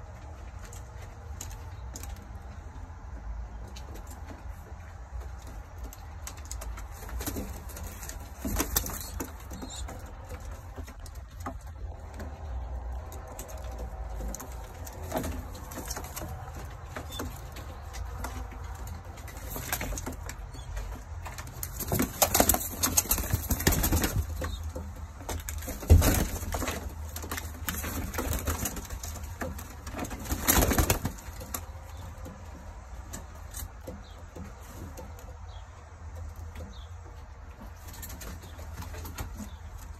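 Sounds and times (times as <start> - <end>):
pigeons rustling: 0.0 - 39.9.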